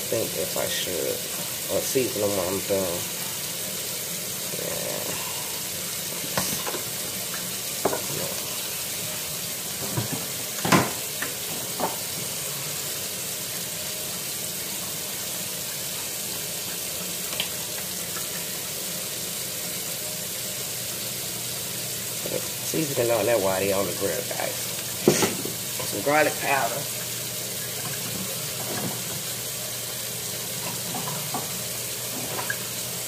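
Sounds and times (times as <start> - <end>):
shrimp sizzling on a grill: 0.0 - 33.0.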